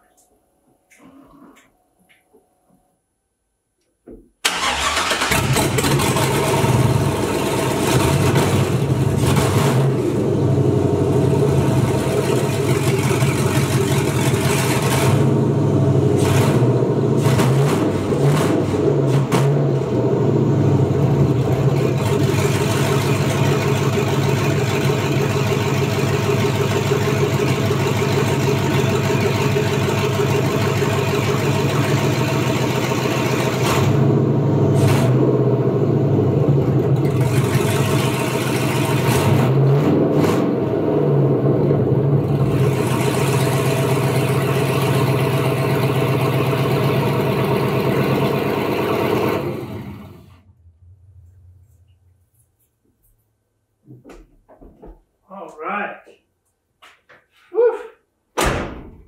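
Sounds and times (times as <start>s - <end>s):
car engine running: 4.5s - 51.9s.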